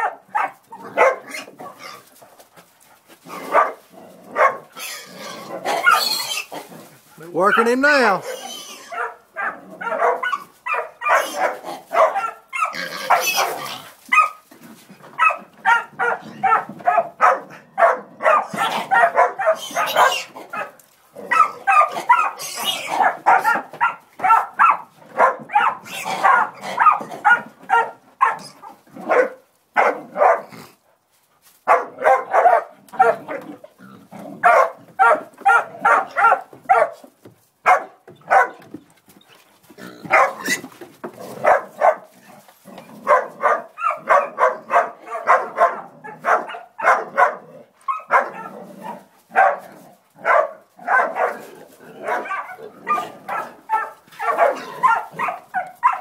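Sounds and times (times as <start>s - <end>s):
dogs barking rapidly: 0.0s - 30.8s, 31.6s - 38.8s, 39.8s - 56.0s.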